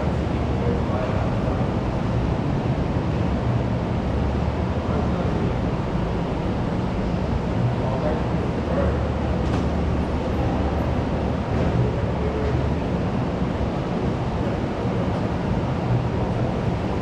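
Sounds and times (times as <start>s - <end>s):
many distant voices talking: 0.0s - 17.0s.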